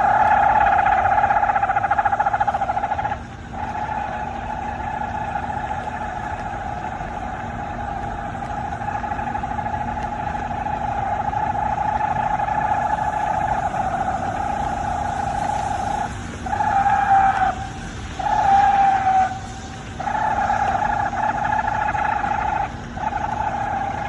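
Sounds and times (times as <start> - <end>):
loud fluttering drone: 0.0 - 24.0.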